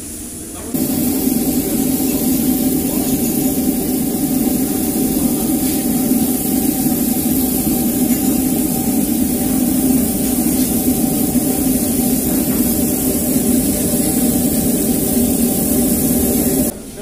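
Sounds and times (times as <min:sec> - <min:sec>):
machine motor hum with hiss: 0:00.0 - 0:16.7.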